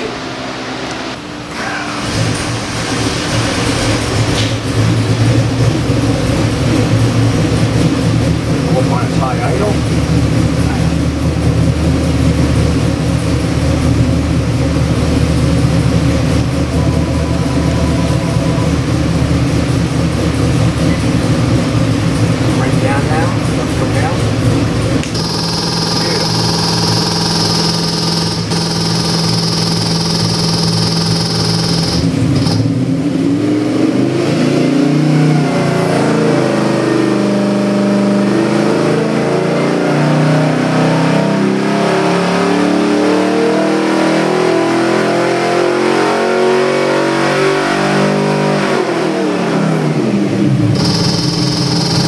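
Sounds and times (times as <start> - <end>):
engine revving on a dyno: 0.0 - 52.0.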